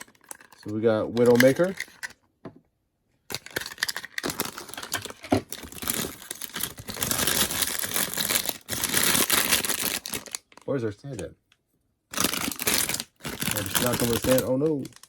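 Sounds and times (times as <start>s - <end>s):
plastic wrapping crinkling: 0.0s - 2.0s, 3.3s - 10.7s, 12.1s - 15.0s.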